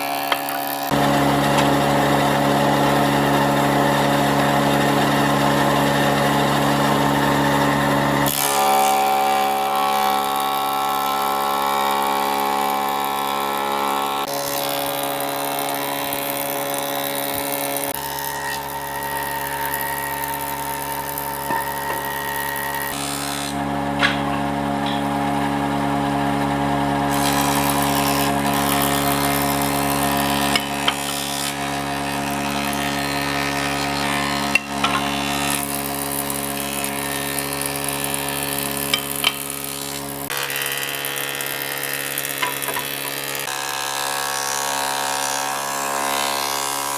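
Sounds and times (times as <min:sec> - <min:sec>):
power woodworking machine running: 0:00.0 - 0:46.9.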